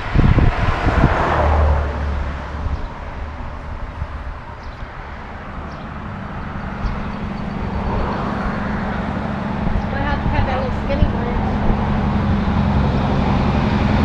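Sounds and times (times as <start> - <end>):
vehicle engine running: 2.1 - 14.0.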